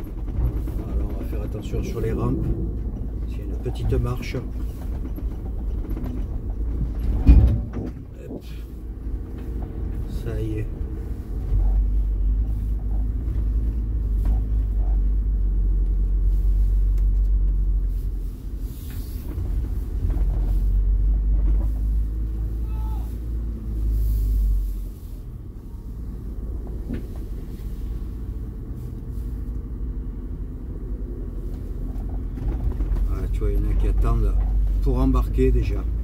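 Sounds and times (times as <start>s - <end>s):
vehicle engine and tyre rumble: 0.0s - 36.0s.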